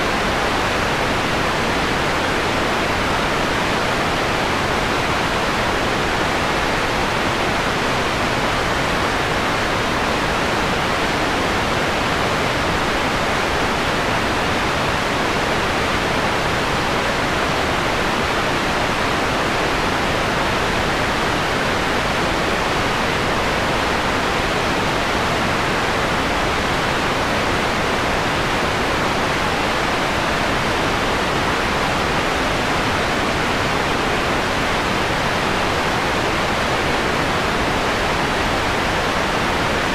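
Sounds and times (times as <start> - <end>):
filtered electronic noise hiss: 0.0 - 39.9.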